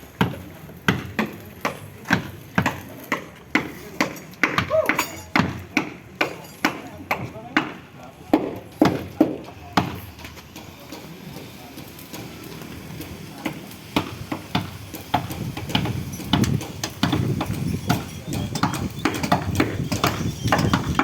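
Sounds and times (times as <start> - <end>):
hammer knocking on wooden planks: 0.2 - 10.0, 14.0 - 21.0.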